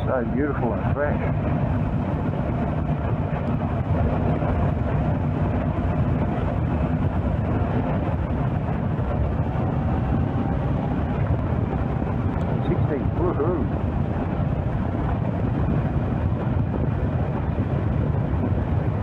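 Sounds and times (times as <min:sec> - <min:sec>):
motorcycle engine running: 0:00.0 - 0:19.0
road noise: 0:00.0 - 0:19.0
wind noise: 0:00.0 - 0:19.0.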